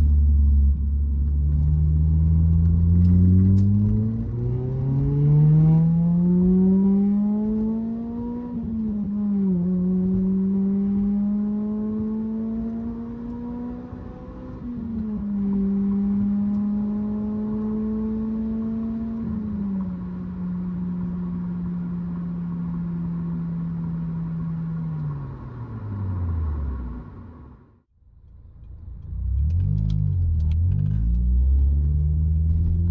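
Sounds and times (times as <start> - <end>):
car exhaust accelerating: 0.0 - 32.9.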